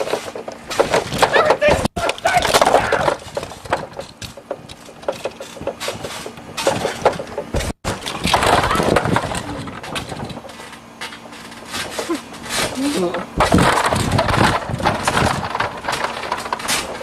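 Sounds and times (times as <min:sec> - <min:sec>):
toys clattering together: 0:00.0 - 0:17.0.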